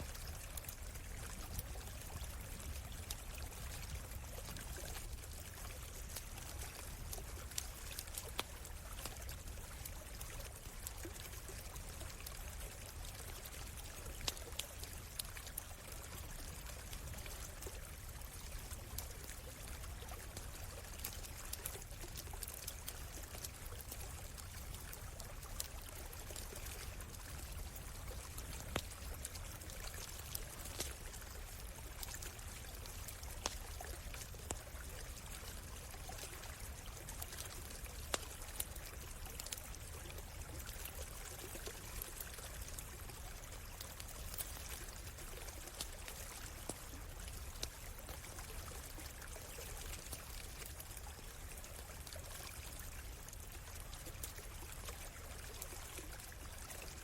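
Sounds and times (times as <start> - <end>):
stream water flowing: 0.0 - 57.0
campfire popping and crackling: 0.1 - 55.6.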